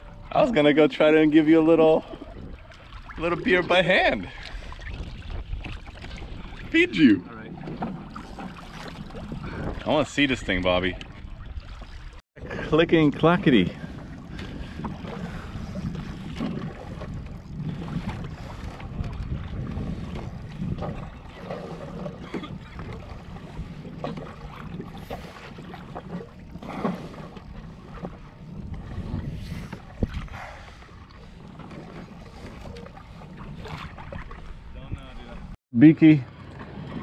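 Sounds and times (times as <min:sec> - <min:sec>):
wind buffeting microphone: 0:00.0 - 0:35.6
water lapping around kayak: 0:00.0 - 0:37.0.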